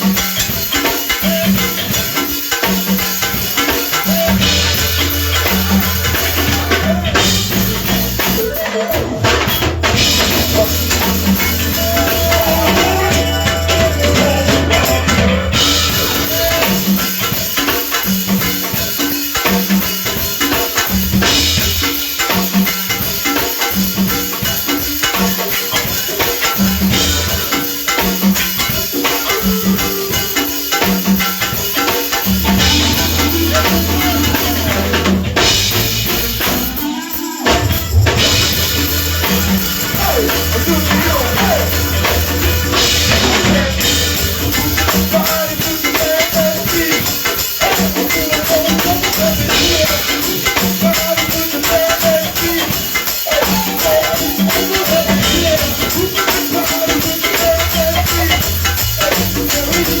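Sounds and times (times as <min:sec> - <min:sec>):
band playing: 0:00.0 - 1:00.0
drums and bass beat: 0:00.0 - 1:00.0.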